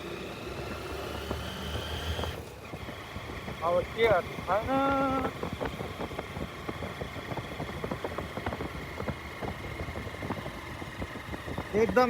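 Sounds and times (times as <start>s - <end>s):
motorcycle running at low speed: 0.0s - 12.0s.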